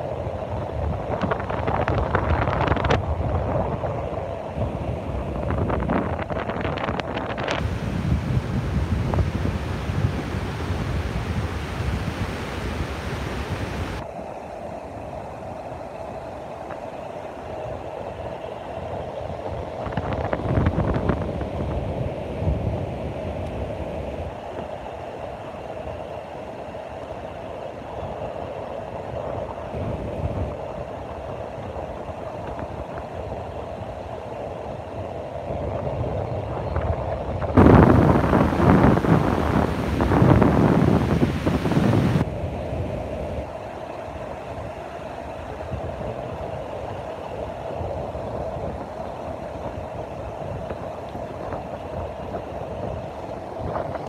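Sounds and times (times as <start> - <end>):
wind buffeting microphone: 0.0 - 14.0, 16.6 - 26.4, 27.2 - 54.0
surf washing on beach: 0.0 - 54.0.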